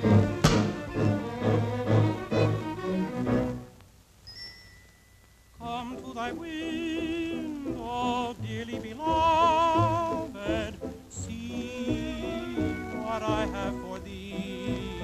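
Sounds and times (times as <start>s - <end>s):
musical accompaniment: 0.0s - 3.8s, 5.6s - 15.0s.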